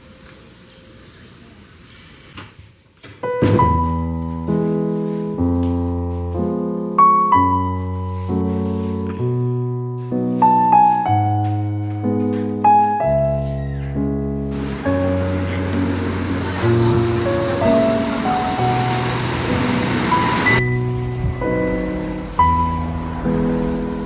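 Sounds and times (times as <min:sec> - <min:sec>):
slow piano piece: 0:03.2 - 0:24.0.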